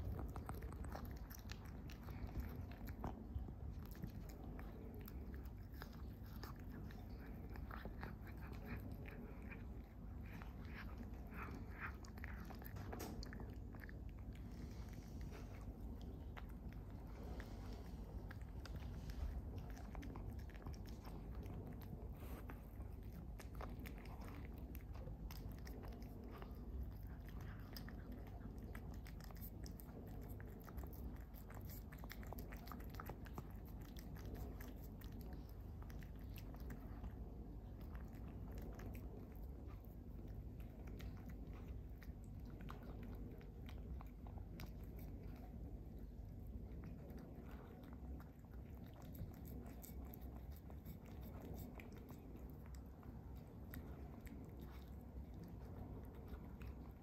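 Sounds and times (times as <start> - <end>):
cat chewing and licking: 0.0 - 57.0.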